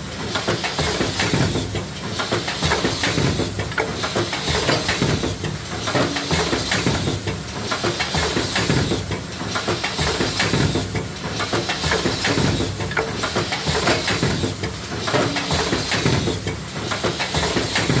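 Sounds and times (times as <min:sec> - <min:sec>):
machine mechanism clattering: 0:00.4 - 0:18.0.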